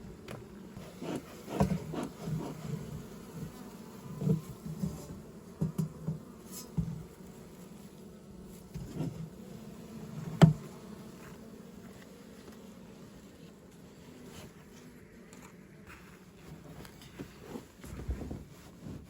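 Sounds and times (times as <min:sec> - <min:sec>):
bees buzzing: 0:00.0 - 0:15.8.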